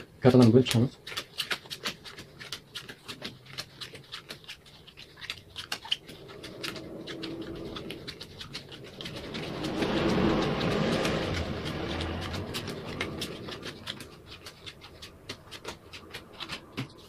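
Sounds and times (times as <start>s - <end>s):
playing cards clicking and slapping: 0.0s - 17.0s.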